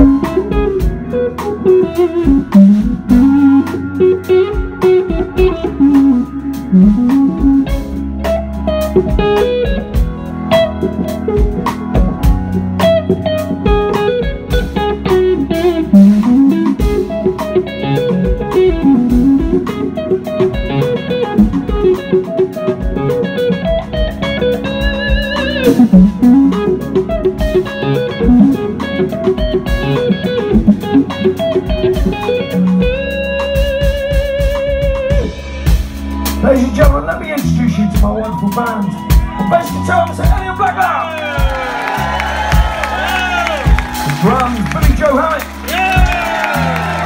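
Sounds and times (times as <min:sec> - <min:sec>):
bass guitar: 0:00.0 - 0:47.0
drums: 0:00.0 - 0:47.0
lead electric guitar melody: 0:00.0 - 0:47.0.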